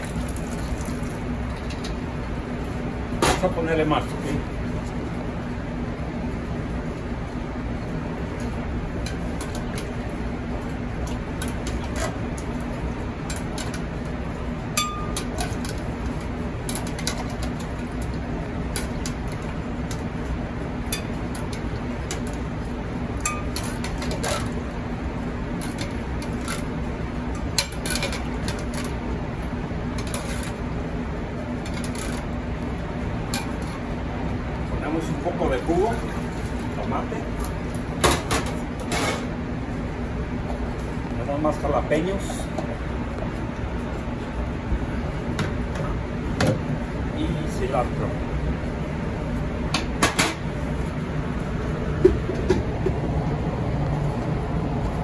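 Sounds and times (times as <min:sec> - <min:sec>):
kitchen rumble and hum: 0:00.0 - 0:55.0.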